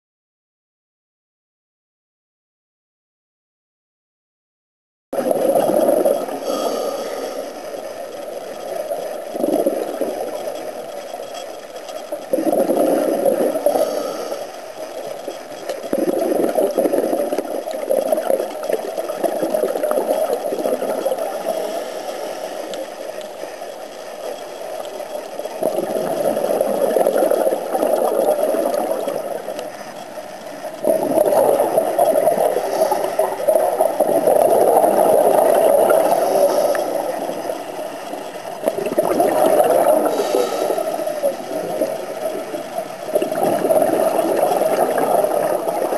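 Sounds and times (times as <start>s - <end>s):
underwater exhaled bubbles: 5.2s - 10.9s, 12.0s - 23.7s, 24.8s - 45.9s.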